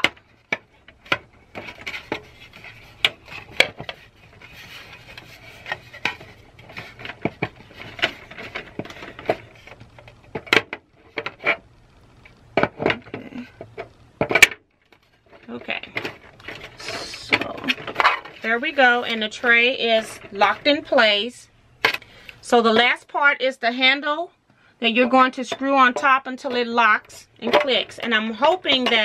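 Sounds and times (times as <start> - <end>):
plastic trays scraping and clicking: 0.0 - 11.6, 12.2 - 21.2, 21.8 - 23.0, 25.0 - 29.0.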